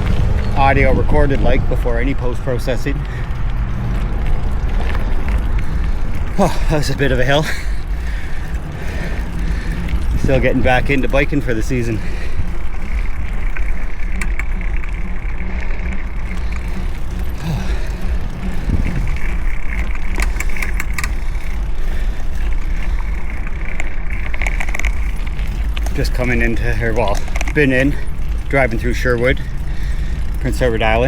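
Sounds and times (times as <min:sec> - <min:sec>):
tyre and road noise: 0:00.0 - 0:31.0
wind rush on microphone: 0:00.0 - 0:31.0.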